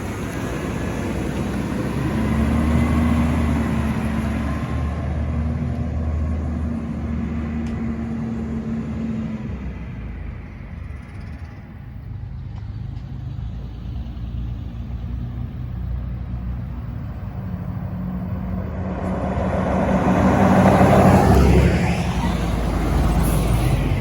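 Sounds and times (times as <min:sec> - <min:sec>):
garbage truck engine humming: 0:00.0 - 0:24.0.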